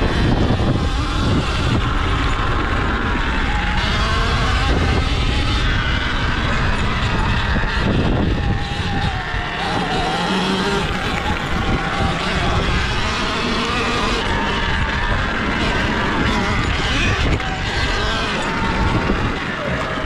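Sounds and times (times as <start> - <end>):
electric motor whine: 0.0 - 20.0
wind rumble on microphone: 0.0 - 20.0.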